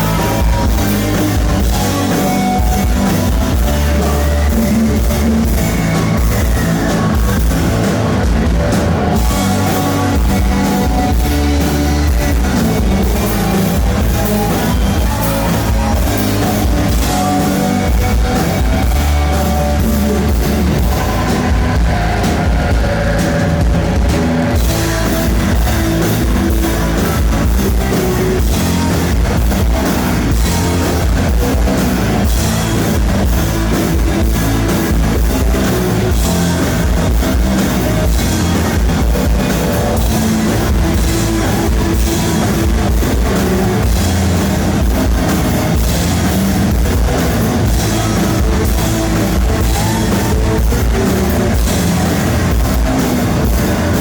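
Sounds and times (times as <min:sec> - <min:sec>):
distorted live band: 0:00.0 - 0:54.0.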